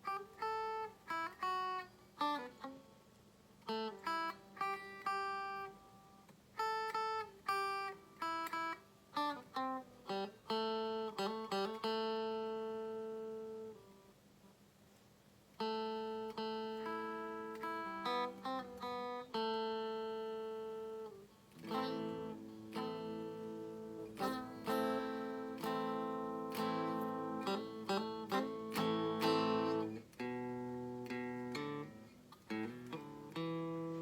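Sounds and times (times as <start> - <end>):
clean electric guitar notes and chords: 0.0 - 2.9, 3.6 - 14.1, 15.6 - 34.0.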